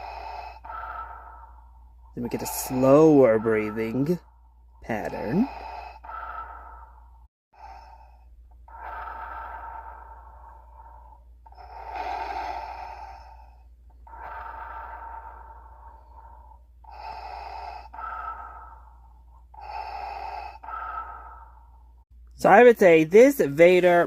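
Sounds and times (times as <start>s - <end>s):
mechanical respirator breathing: 0.0s - 22.0s.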